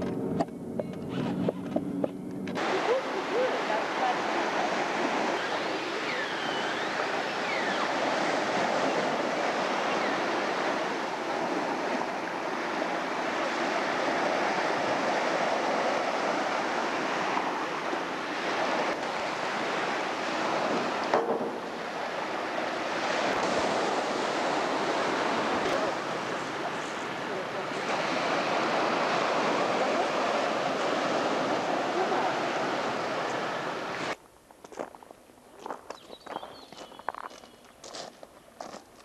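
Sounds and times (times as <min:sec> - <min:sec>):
waves washing up a pebble beach: 0:02.6 - 0:34.2.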